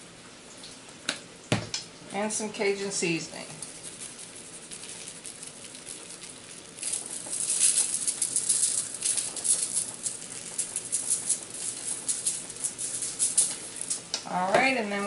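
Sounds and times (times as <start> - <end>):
seasoning rattling in a can: 2.9 - 15.0.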